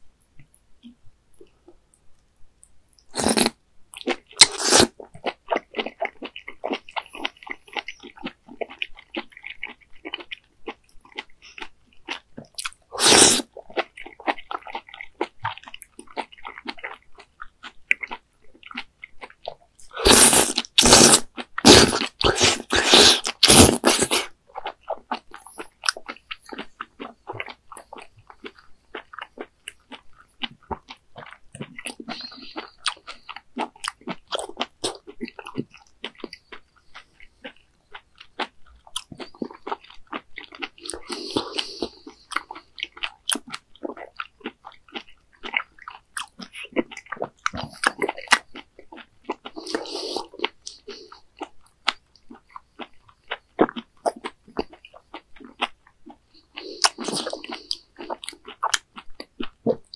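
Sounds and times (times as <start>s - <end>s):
person chewing wetly: 2.6s - 59.9s.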